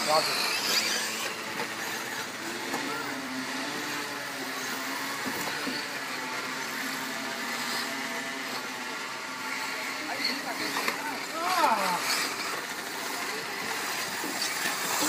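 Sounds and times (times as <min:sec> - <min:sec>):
rc car motors whirring: 0:00.0 - 0:15.0.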